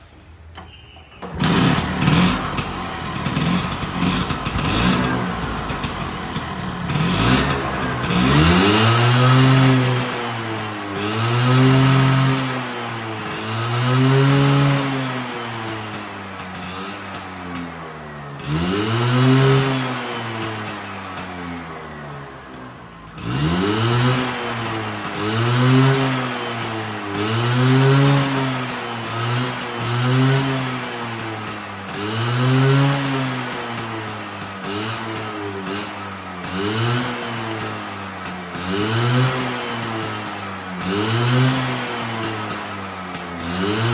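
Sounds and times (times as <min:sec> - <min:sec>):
scooter engine revving: 0:01.2 - 0:43.9.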